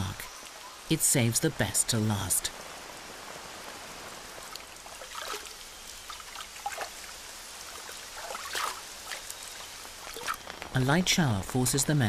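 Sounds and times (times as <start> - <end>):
light rain falling: 0.0 - 12.0
louder raindrops: 0.0 - 12.0.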